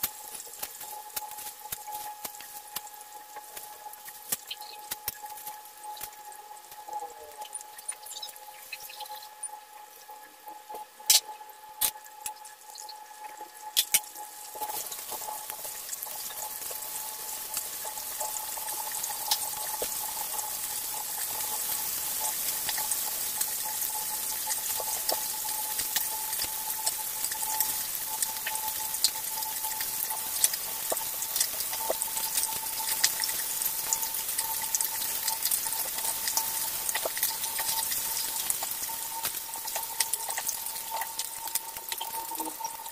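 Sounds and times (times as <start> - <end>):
faint steady hum: 0.0 - 42.9
fish sizzling in oil: 0.0 - 42.9.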